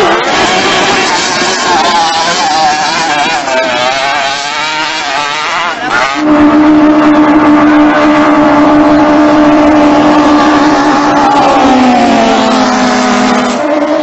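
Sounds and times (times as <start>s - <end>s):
boat engines running flat out: 0.0s - 14.0s.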